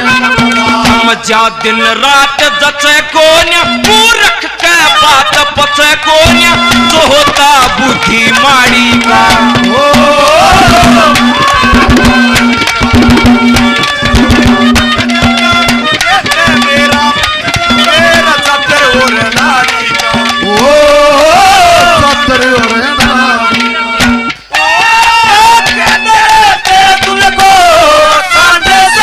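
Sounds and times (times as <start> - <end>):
drum rhythm: 0.0 - 29.0.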